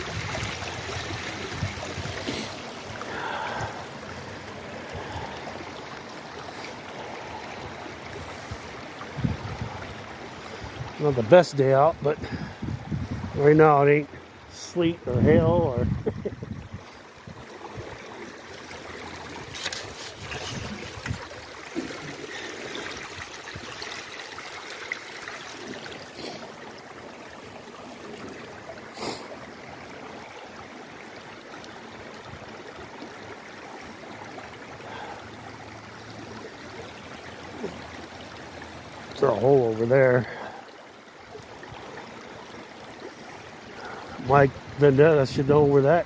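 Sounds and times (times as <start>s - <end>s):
creek water running: 0.0s - 46.0s.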